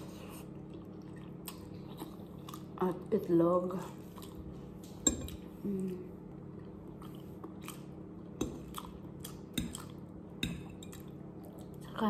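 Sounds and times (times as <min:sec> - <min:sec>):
chewing and mouth sounds: 0:00.1 - 0:02.9, 0:04.0 - 0:12.0.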